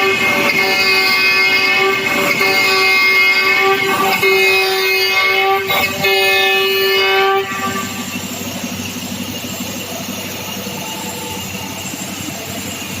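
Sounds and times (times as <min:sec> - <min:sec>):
lower machine noise: 0:00.0 - 0:13.0
router spindle high-pitched whine: 0:00.0 - 0:13.0.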